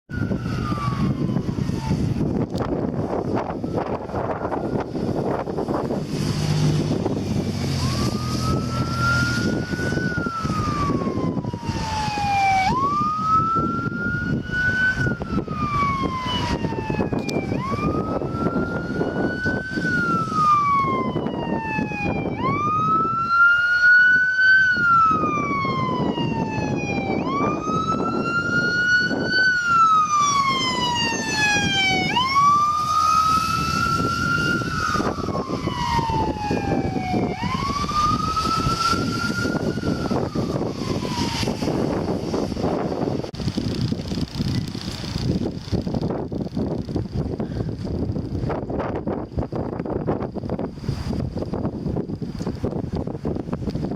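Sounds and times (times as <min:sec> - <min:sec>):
road and wind rumble: 0:00.0 - 0:53.9
ambulance siren wailing: 0:00.1 - 0:43.8.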